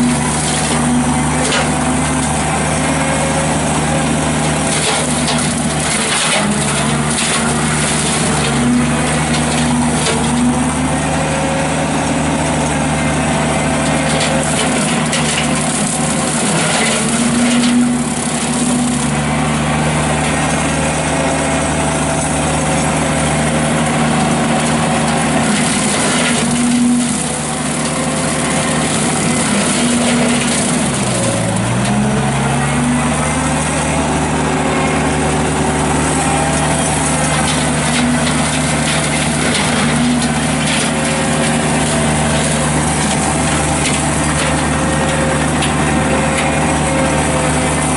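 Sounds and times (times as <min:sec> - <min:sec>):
skid steer engine running: 0:00.0 - 0:47.9.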